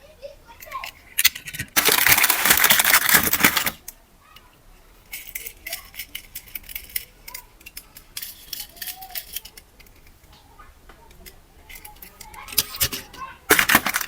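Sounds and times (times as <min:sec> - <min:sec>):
plastic clicking and crackling: 0:00.6 - 0:04.5, 0:05.1 - 0:14.0.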